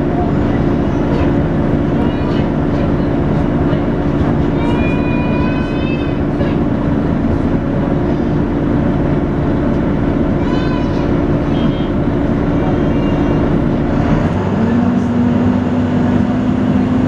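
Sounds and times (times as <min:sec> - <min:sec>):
bus engine whine: 0:00.0 - 0:17.0.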